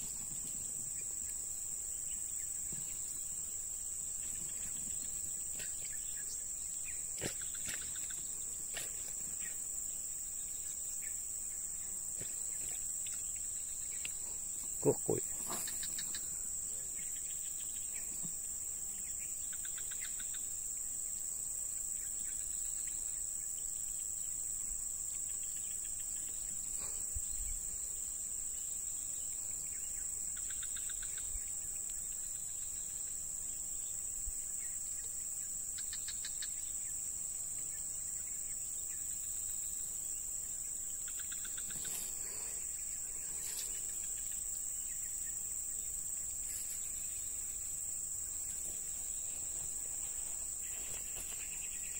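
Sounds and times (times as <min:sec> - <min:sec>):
high-pitched insect drone: 0:00.0 - 0:51.9
pulsing insect trills: 0:00.0 - 0:51.9.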